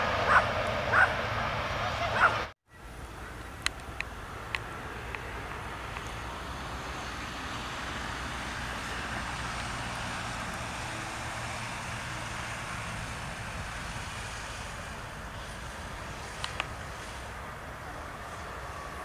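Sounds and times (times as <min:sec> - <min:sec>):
distant jet engines rushing: 0:00.0 - 0:19.0.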